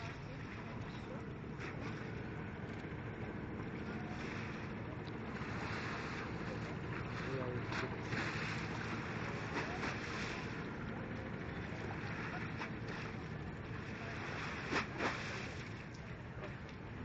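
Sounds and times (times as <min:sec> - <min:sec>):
low general rumble: 0:00.0 - 0:17.0.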